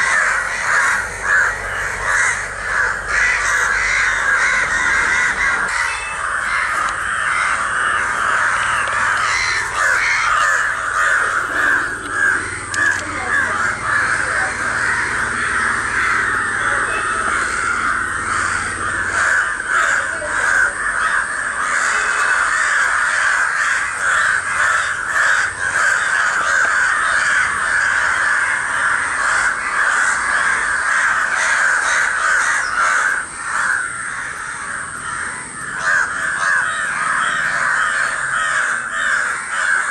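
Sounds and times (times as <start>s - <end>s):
crows cawing: 0.0s - 39.9s.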